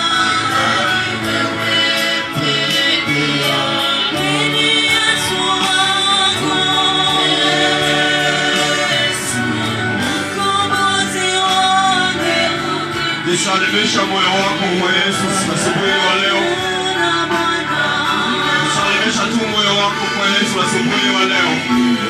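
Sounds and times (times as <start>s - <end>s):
group singing gospel song: 0.0s - 22.0s
instrumental accompaniment: 0.0s - 22.0s.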